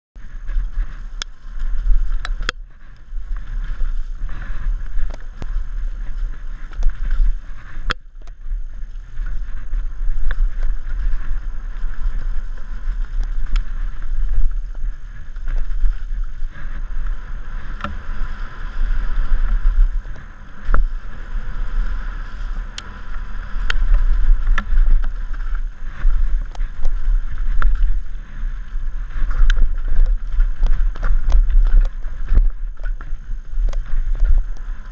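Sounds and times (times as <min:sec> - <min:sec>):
bike clicks and knocks: 0:00.2 - 0:18.2, 0:22.7 - 0:34.9
tyre noise on dirt: 0:00.2 - 0:34.9
wind rumble on microphone: 0:00.2 - 0:34.9.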